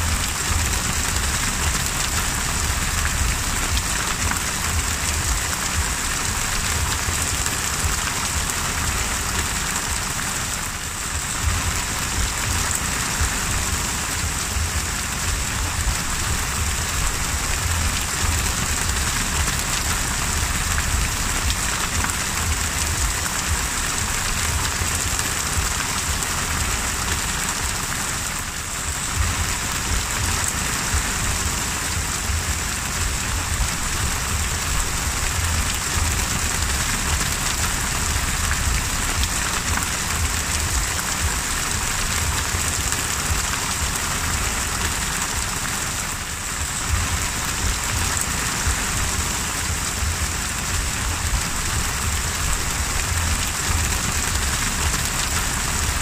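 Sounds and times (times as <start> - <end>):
heavy rain on sea water: 0.0 - 56.0.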